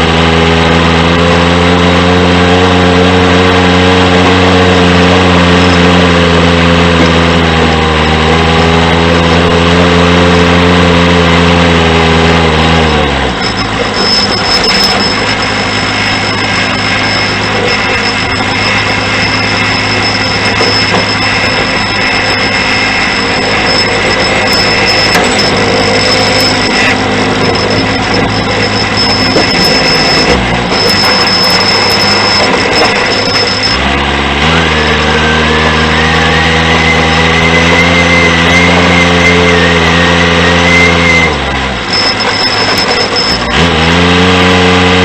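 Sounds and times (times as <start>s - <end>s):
diesel engine running: 0.0s - 45.0s
high whine: 0.0s - 45.0s
wavering whine: 0.0s - 45.0s.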